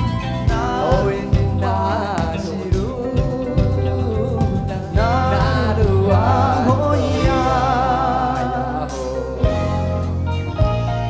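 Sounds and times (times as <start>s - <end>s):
pop-rock ballad with full band: 0.0s - 11.0s.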